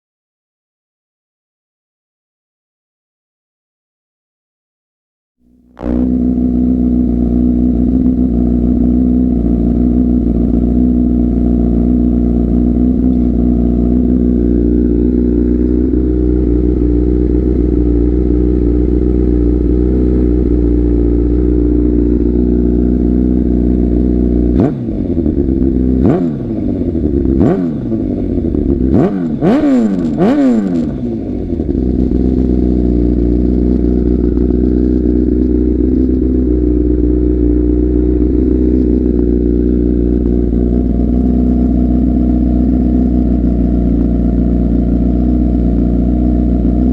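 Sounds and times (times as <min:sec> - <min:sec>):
motorcycle engine idling: 0:05.4 - 0:46.9
motorcycle throttle blips: 0:05.4 - 0:46.9.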